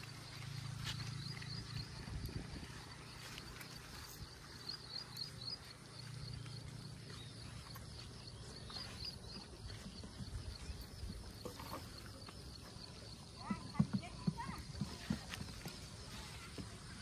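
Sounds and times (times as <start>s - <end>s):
faint high-pitched chirping: 0.4s - 14.6s.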